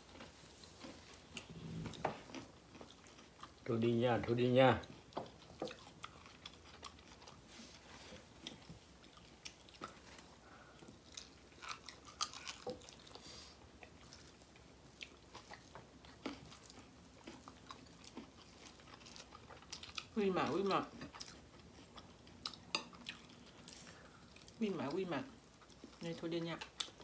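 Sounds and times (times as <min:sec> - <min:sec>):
faint chewing: 0:00.0 - 0:27.0.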